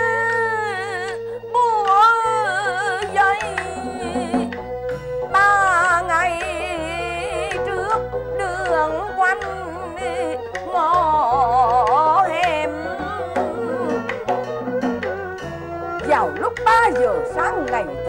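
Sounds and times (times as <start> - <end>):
woman singing with vibrato: 0.0 - 4.6, 5.3 - 15.1, 16.0 - 18.0
instrumental accompaniment: 0.0 - 18.0.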